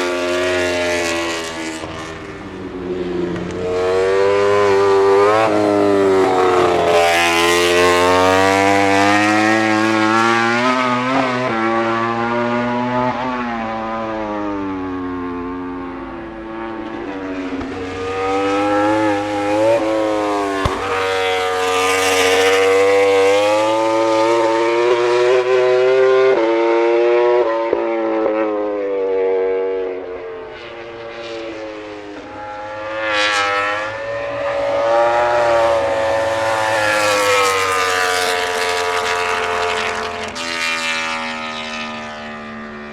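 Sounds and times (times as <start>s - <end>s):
motorcycles passing close: 0.0s - 42.9s
race motorcycles at high revs: 0.0s - 42.9s.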